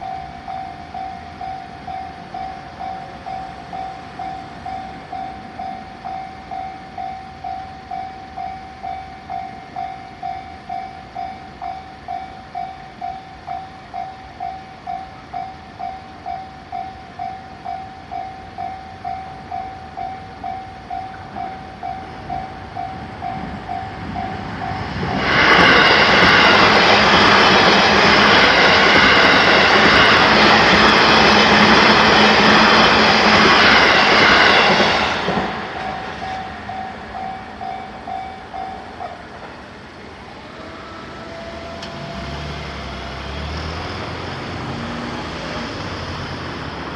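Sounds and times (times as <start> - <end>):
electric train passing: 0.0 - 46.9
level-crossing warning bell: 0.0 - 46.9.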